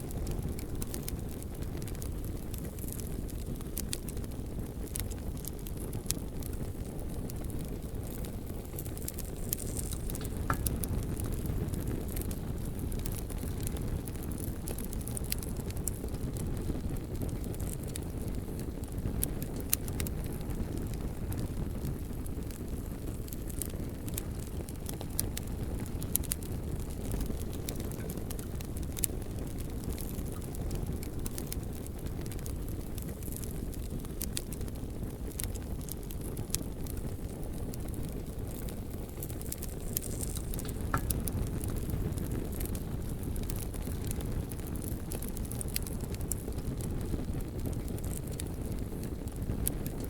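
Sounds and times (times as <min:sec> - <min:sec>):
bonfire crackling and popping: 0:00.0 - 0:50.0.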